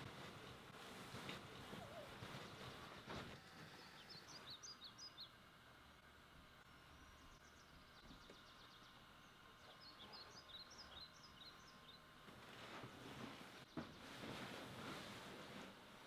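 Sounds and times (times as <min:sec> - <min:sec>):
faint birds chirping: 0:00.0 - 0:15.6
background hiss: 0:00.0 - 0:16.0.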